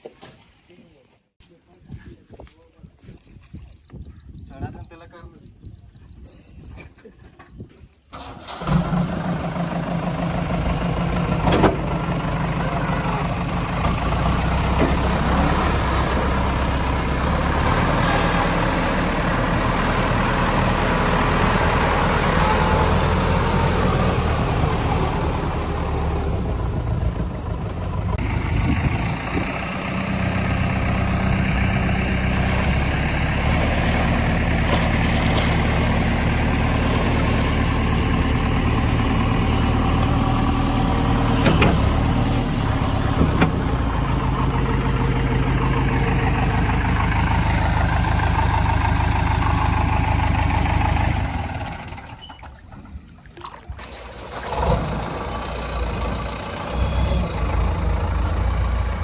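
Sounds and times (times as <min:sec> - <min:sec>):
diesel engine idling: 0:08.2 - 0:53.1, 0:53.8 - 0:59.0.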